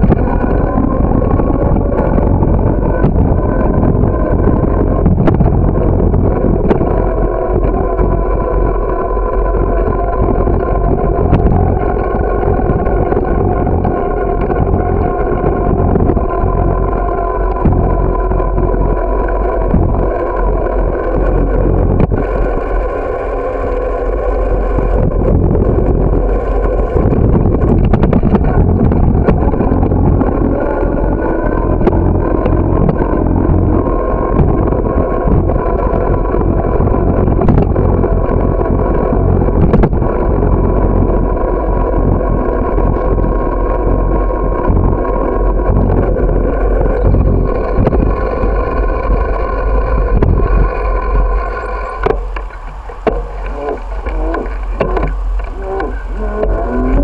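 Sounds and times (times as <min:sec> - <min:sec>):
droning hum: 0:00.0 - 0:57.0
wind and road rumble: 0:00.0 - 0:57.0.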